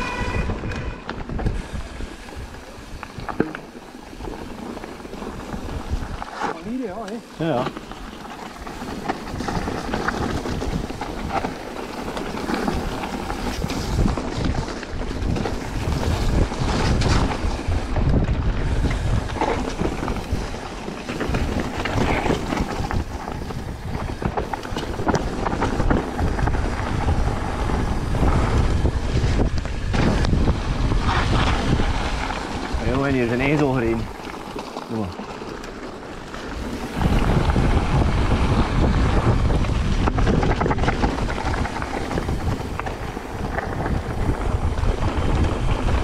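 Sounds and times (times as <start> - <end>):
bike knocks and rattles: 0.0 - 46.0
wind buffeting microphone: 0.0 - 46.0.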